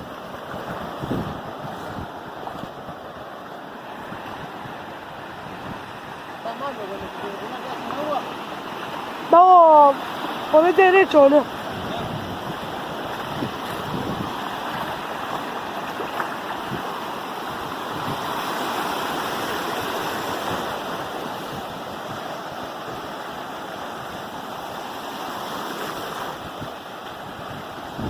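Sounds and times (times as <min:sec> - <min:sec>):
sea surf rushing: 0:00.0 - 0:28.0.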